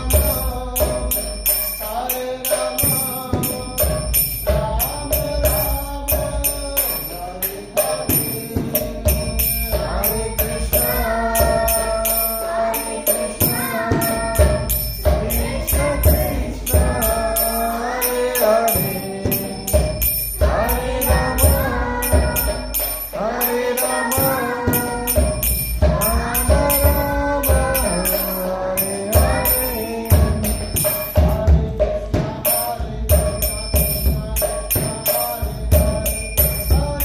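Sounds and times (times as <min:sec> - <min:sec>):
chanted singing with music: 0:00.0 - 0:37.0
jingling hand percussion: 0:00.0 - 0:37.0.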